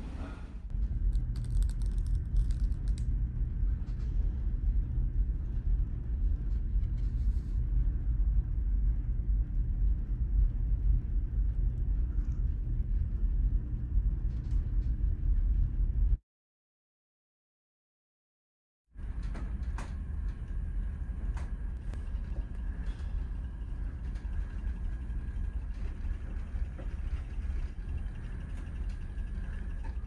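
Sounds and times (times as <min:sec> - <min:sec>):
low ship engine rumble: 0:00.0 - 0:16.2, 0:19.0 - 0:30.0.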